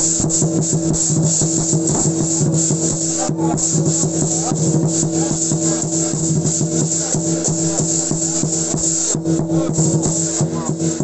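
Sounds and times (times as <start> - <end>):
rapid crackle of hits: 0.0 - 11.0.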